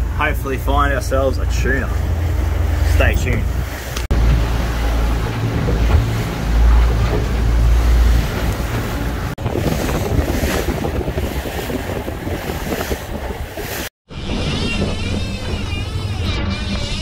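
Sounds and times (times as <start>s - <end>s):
outboard motors running: 0.0s - 16.9s
water rushing past boat hull: 0.0s - 17.0s
wind buffeting microphone: 1.4s - 16.3s.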